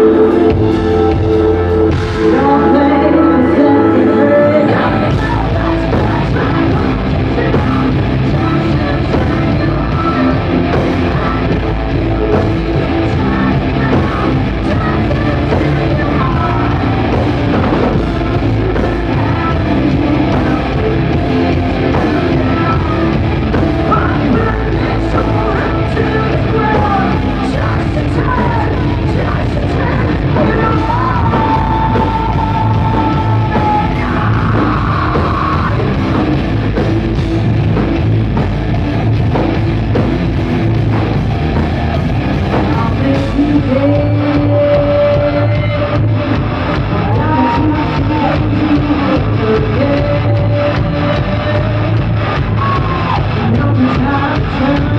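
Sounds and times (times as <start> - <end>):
live hard rock band: 0.0 - 54.9.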